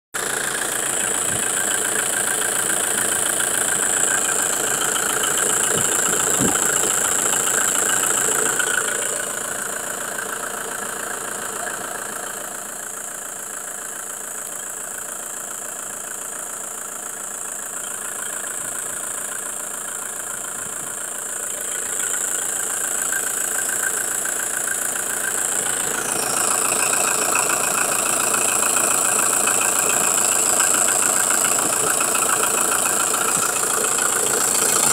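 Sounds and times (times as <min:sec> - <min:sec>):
diesel engine idling: 0:00.2 - 0:34.9.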